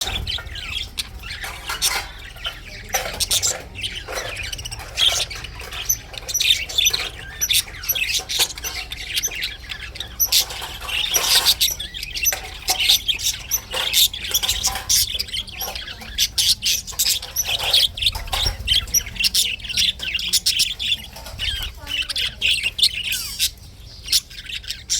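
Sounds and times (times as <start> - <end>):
budgerigar chirping: 0.0 - 24.9.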